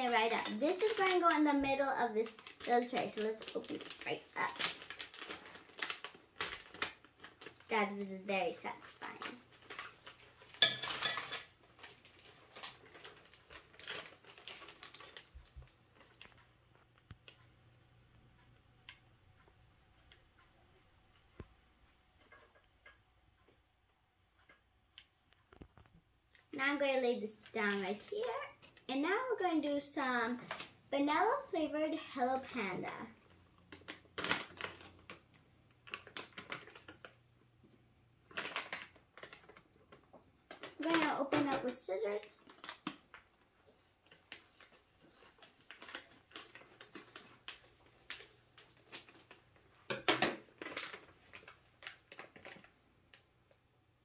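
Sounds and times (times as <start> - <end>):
wrappers crinkling and rustling: 0.0 - 17.5, 25.4 - 53.8.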